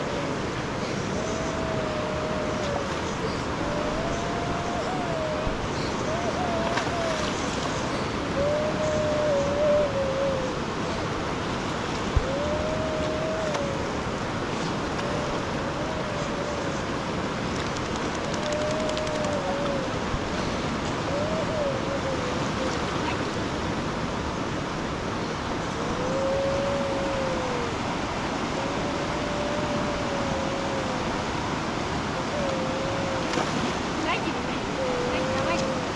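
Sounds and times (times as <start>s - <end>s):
rushing river water: 0.0s - 35.9s.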